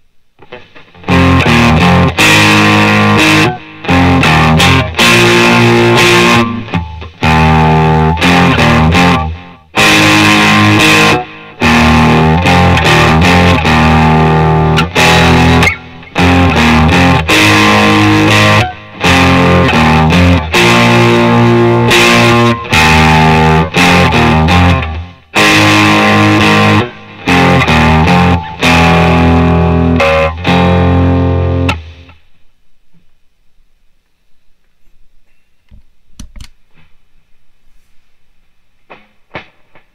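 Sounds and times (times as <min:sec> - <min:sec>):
distorted electric guitar riff: 0:00.4 - 0:32.7.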